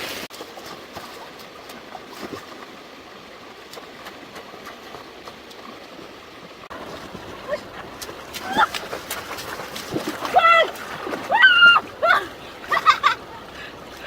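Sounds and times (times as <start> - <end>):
small water splashes: 0.0 - 14.0
stream water running: 0.0 - 14.0.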